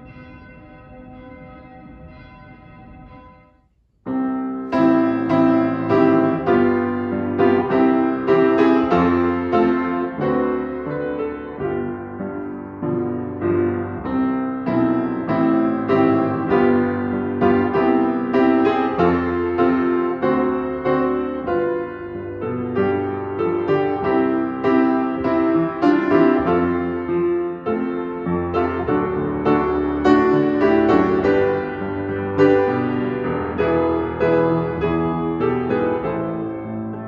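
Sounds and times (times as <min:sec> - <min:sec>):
upright piano chords: 0:00.0 - 0:03.5, 0:04.1 - 0:37.0.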